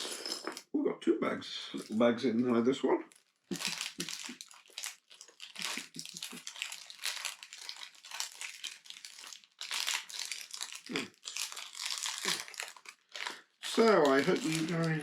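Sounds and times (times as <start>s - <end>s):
plastic bags crinkling: 1.7s - 2.0s, 3.0s - 15.0s.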